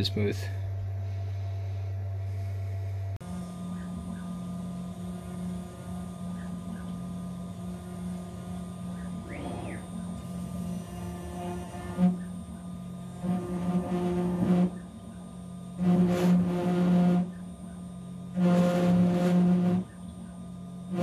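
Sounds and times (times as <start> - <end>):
steady low hum: 0.0 - 21.0
rising and falling whine: 1.0 - 21.0.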